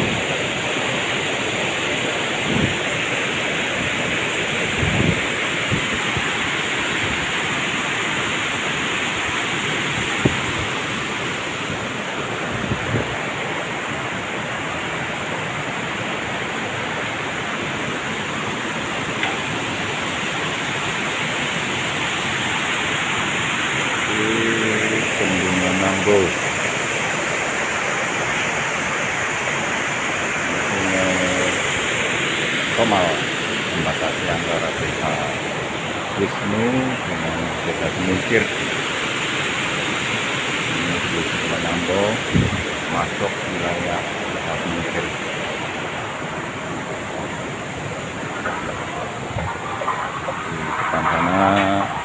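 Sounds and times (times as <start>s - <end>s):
river water rushing over weir: 0.0s - 52.0s.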